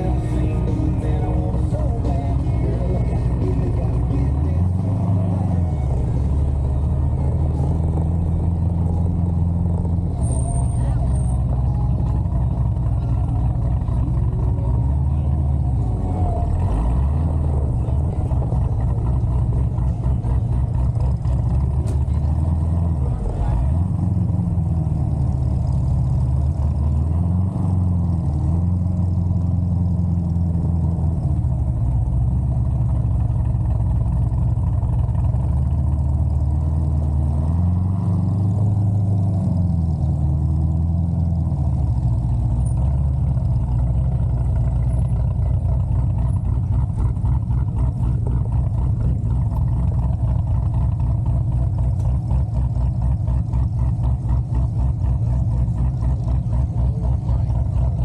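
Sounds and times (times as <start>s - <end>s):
car engine running and idling: 0.0s - 58.0s.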